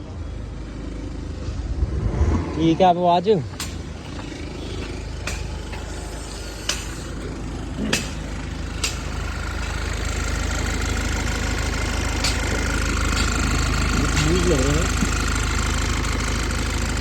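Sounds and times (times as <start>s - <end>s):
diesel car engine idling: 0.0s - 1.8s, 2.4s - 17.0s.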